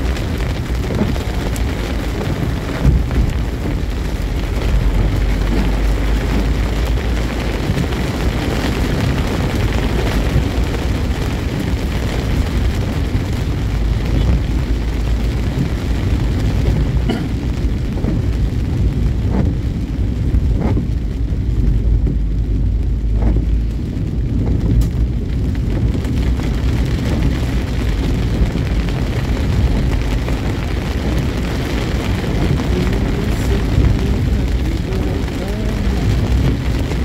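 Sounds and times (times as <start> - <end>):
vehicle road noise: 0.0 - 37.0
wind buffeting microphone: 0.0 - 37.0.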